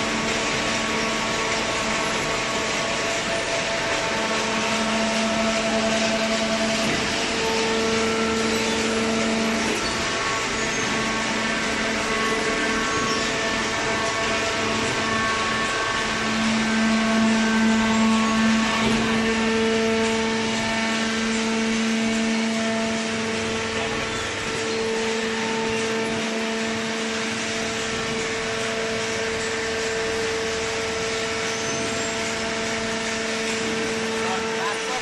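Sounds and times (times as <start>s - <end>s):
machine hum with hiss: 0.0s - 35.0s.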